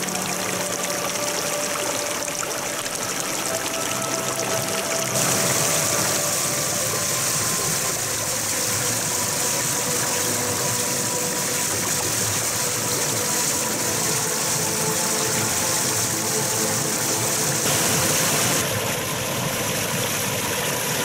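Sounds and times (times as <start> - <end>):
waterfall splashing into pool: 0.0 - 21.0.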